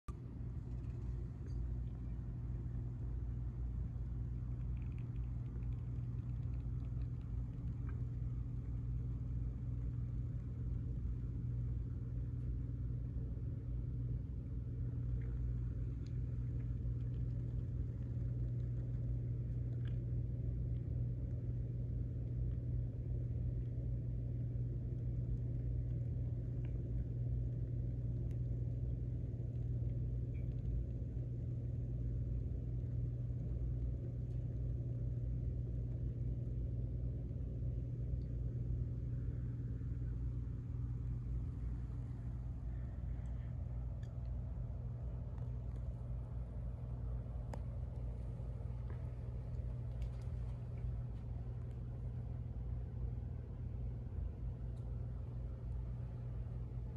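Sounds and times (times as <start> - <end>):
steady low hum and rumble: 0.0 - 56.9.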